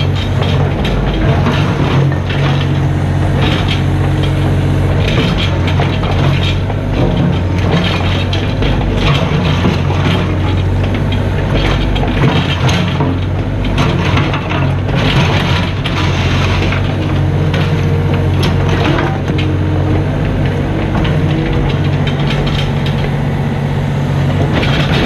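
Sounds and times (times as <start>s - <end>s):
bucket scraping and crunching ground: 0.0s - 25.0s
excavator diesel engine running: 0.0s - 25.0s.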